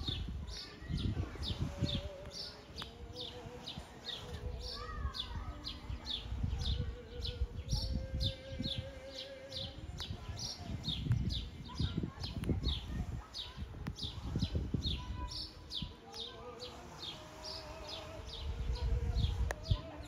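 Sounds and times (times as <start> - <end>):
bird chirping: 0.0 - 20.0
wind rumble on microphone: 0.0 - 20.0.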